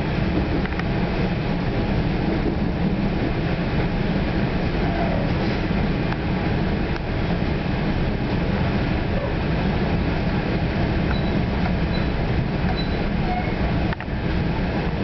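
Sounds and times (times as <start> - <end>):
train coach rumbling at speed: 0.0 - 15.0.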